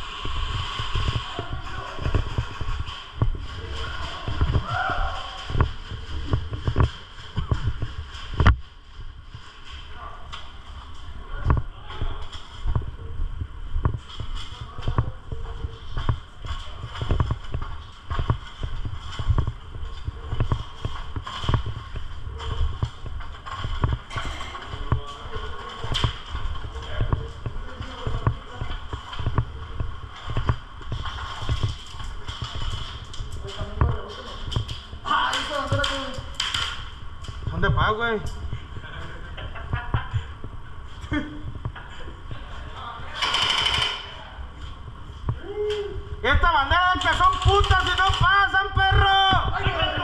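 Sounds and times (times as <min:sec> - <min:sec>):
footsteps thumping: 0:00.2 - 0:42.0, 0:44.6 - 0:50.0.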